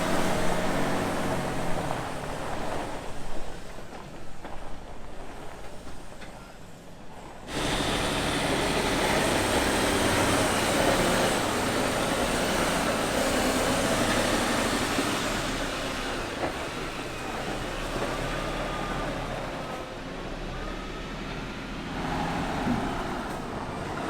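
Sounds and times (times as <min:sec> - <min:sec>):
truck diesel engine running: 0:00.0 - 0:03.8, 0:07.5 - 0:24.0
heavy rolling noise: 0:00.0 - 0:24.0.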